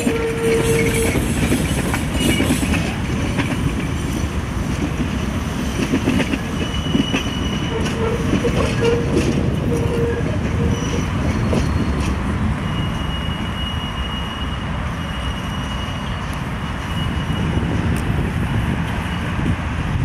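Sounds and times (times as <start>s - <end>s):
tram rumbling along rails: 0.0s - 20.0s.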